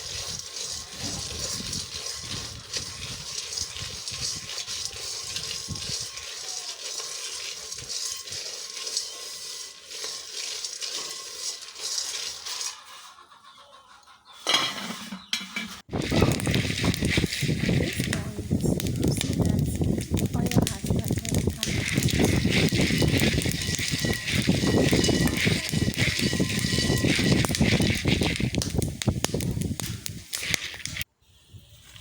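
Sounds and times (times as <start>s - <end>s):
nuts scraping and rattling in pot: 0.0s - 13.3s, 14.5s - 31.1s.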